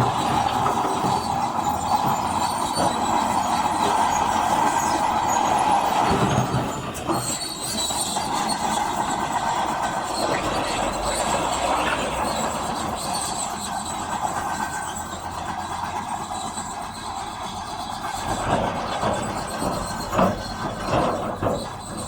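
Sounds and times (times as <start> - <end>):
diesel engine under load: 0.0 - 22.0
steel tracks clanking and squealing: 0.0 - 22.0.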